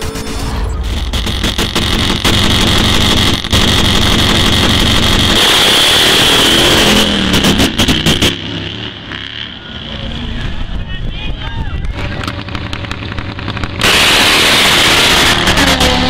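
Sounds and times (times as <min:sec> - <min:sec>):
drag motorcycle engine roaring: 0:00.0 - 0:16.0.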